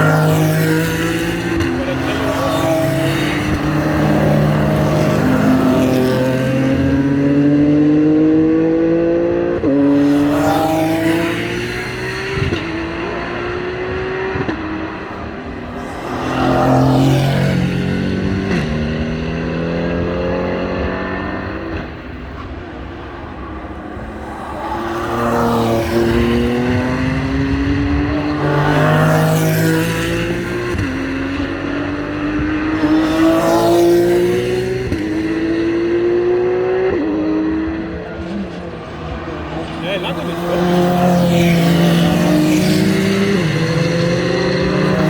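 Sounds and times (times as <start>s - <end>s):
race car engines passing: 0.0s - 45.0s.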